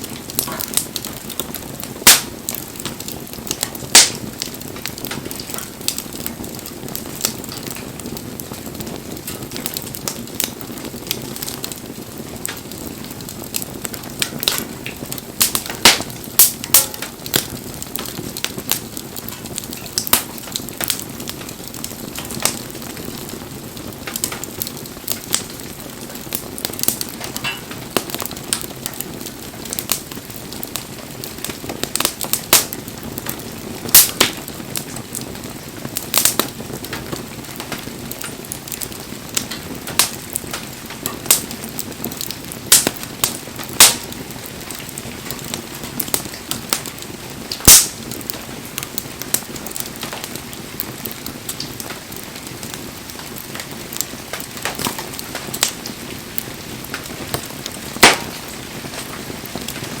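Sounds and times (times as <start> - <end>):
bonfire crackling and popping: 0.0 - 60.0.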